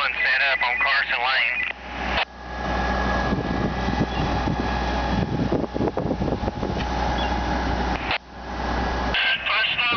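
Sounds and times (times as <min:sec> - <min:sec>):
diesel engine running: 0:00.0 - 0:09.9.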